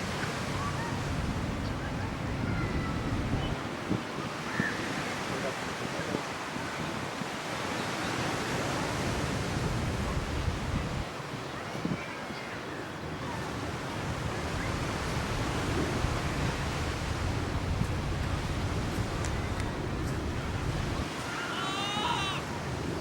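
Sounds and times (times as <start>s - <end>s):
ocean surf on beach: 0.0s - 23.0s.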